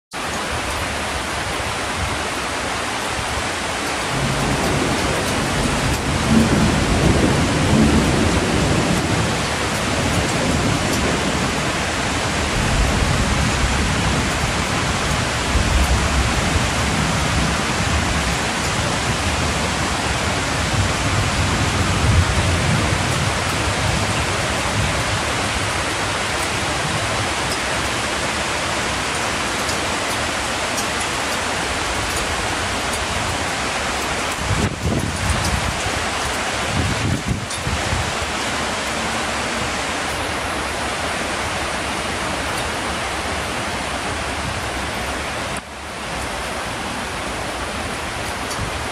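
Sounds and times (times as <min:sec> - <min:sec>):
hail and rain pouring: 0:00.2 - 0:48.9.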